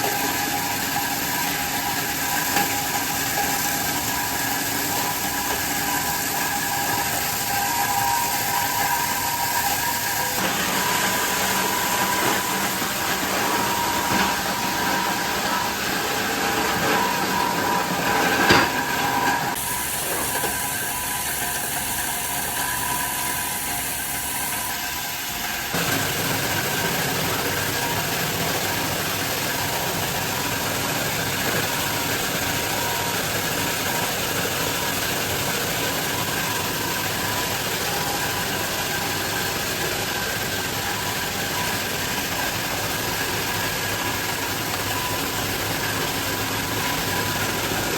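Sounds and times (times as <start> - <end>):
industrial machinery running: 0.0 - 47.9
machine hums: 0.0 - 47.9.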